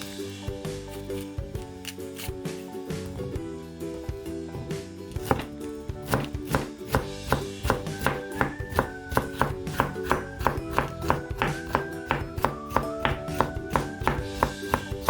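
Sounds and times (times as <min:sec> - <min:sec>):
background music: 0:00.0 - 0:15.0
knife chopping on cutting board: 0:00.7 - 0:03.3, 0:05.1 - 0:15.0.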